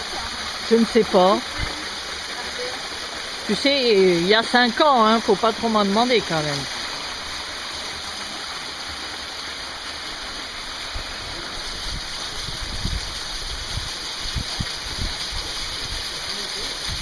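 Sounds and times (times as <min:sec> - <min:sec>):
stream cascade rushing: 0:00.0 - 0:17.0.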